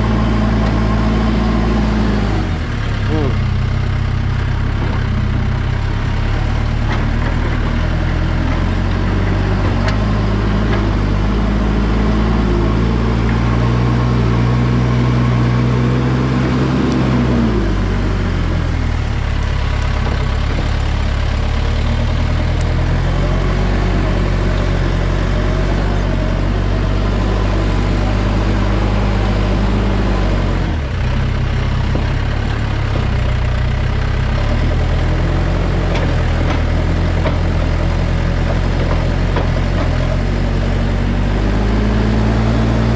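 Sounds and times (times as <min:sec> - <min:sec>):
backhoe diesel engine: 0:00.0 - 0:42.9.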